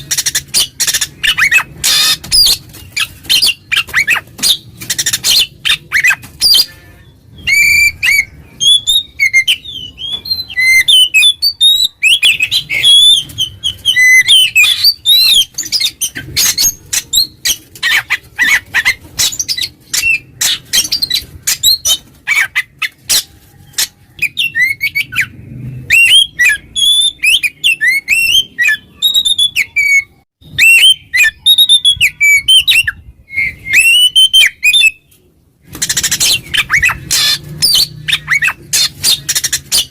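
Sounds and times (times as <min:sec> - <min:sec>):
bird singing: 0:00.0 - 0:35.2.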